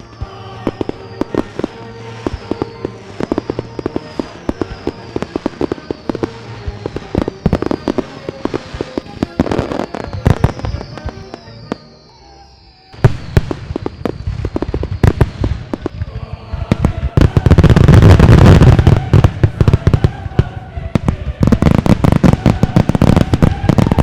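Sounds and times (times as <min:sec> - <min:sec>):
falling firework whistle: 0:00.0 - 0:24.0
fireworks bangs and crackles: 0:00.0 - 0:24.0.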